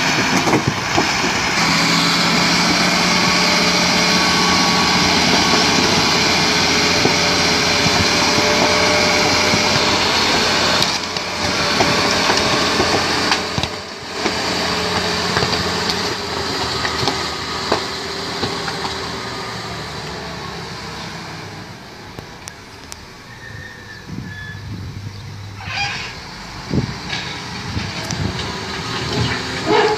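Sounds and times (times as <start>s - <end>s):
diesel engine under load: 0.0s - 29.9s.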